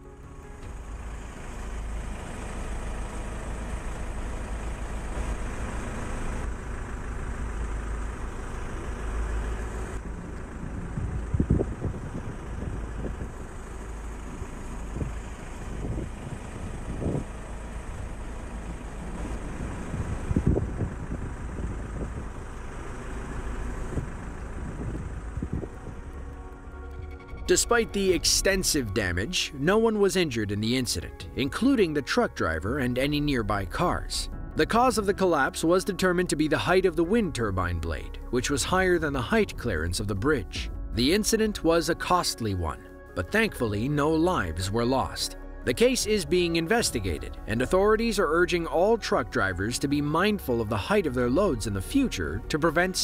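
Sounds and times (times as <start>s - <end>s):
highway traffic rumble: 0.0s - 53.0s.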